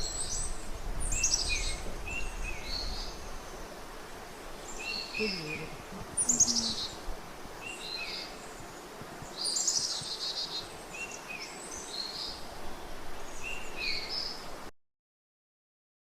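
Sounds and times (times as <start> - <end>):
songbird chirps: 0.0 - 14.6
background hiss: 0.0 - 14.7.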